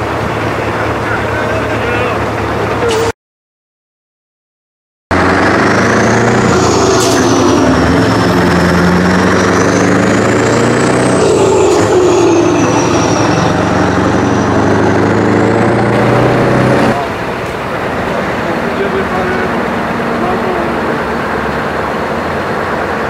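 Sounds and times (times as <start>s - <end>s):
diesel truck engine running: 0.0s - 3.1s, 5.1s - 23.0s.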